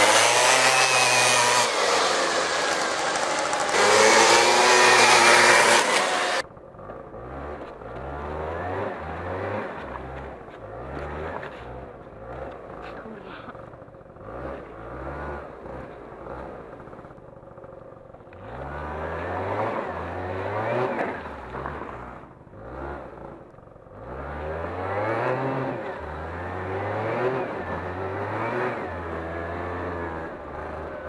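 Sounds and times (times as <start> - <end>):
scooter engine revving: 0.0 - 31.0.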